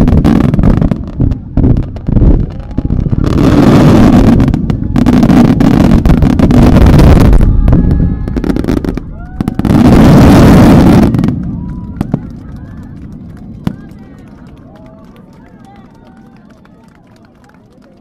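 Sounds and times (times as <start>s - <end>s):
fireworks bursting and crackling: 0.0s - 17.6s.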